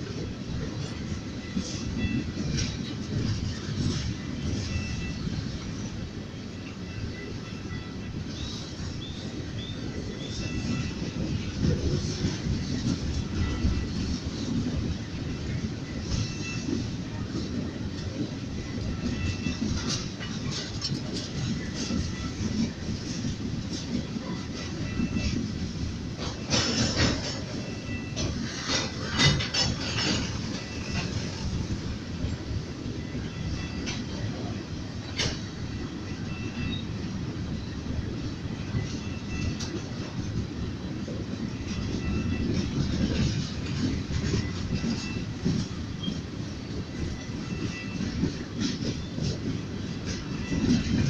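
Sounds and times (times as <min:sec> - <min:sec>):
freight train rumbling past: 0:00.0 - 0:51.0
wheels clacking over rail joints: 0:00.0 - 0:51.0.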